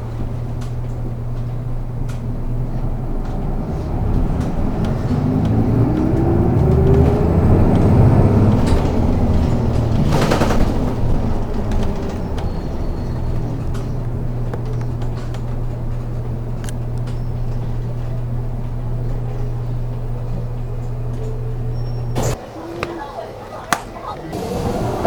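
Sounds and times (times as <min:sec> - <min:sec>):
bus engine: 0:00.0 - 0:25.0.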